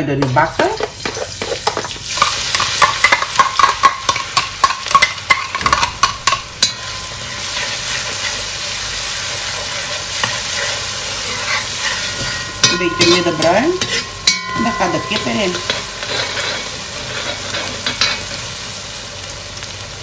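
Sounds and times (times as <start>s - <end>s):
paste sizzling in hot oil: 0.3s - 20.0s
utensil scraping a pan: 0.8s - 18.4s.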